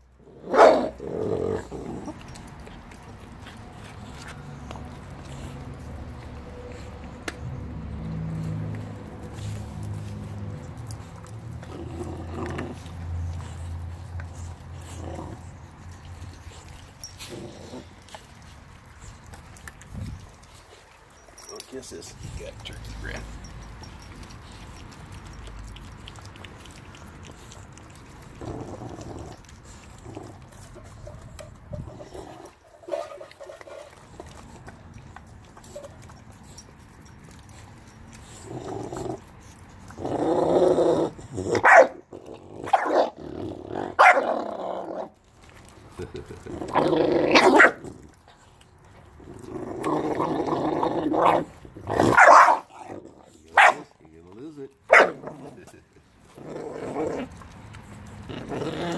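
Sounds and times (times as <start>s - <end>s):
puppy growling: 0.0s - 58.9s
dog crunching bones: 0.1s - 58.9s
puppy snarling: 0.2s - 20.2s, 21.1s - 36.8s, 37.4s - 48.4s, 49.1s - 58.9s
dog vocalization: 0.4s - 40.4s, 41.0s - 58.9s.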